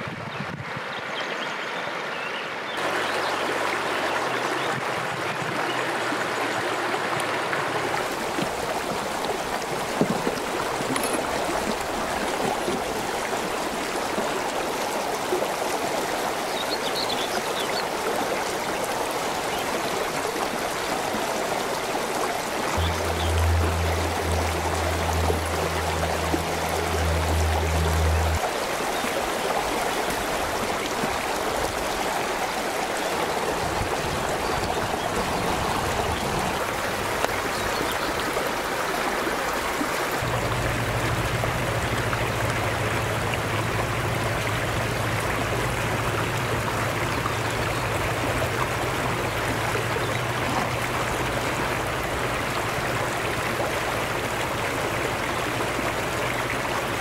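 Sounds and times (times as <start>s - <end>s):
stream rushing over rocks: 1.8s - 57.0s.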